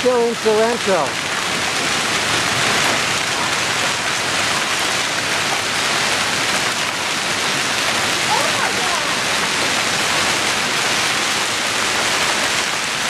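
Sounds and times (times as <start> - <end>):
heavy rain and hail: 0.0 - 13.0.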